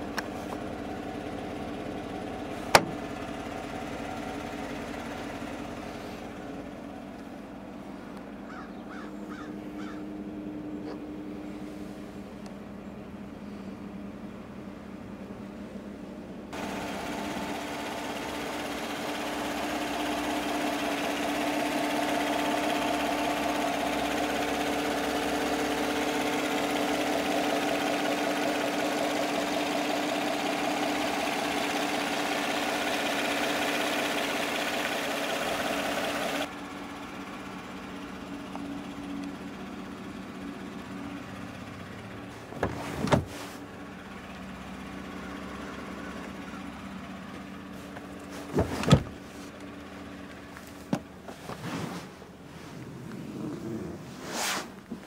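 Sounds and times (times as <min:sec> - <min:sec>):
engine idling: 0:00.0 - 0:54.2.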